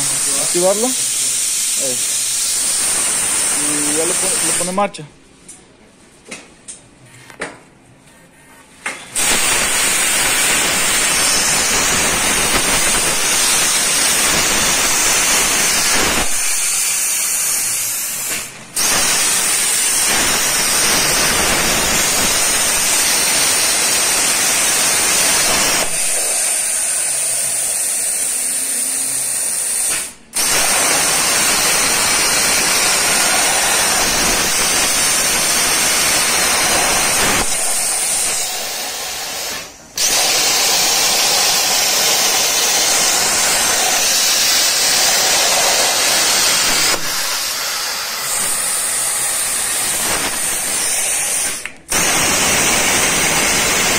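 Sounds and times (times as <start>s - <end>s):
plasma torch cutting steel: 0.0s - 5.0s, 9.1s - 53.9s.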